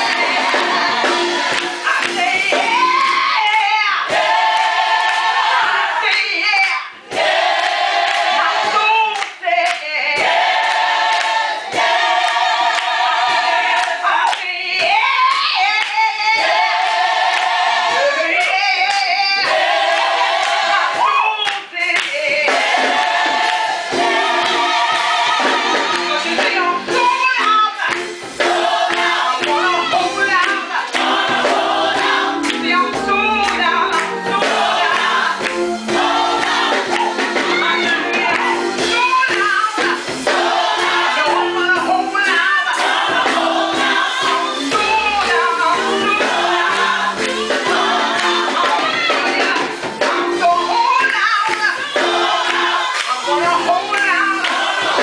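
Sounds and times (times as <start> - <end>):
choir singing gospel: 0.0 - 55.0.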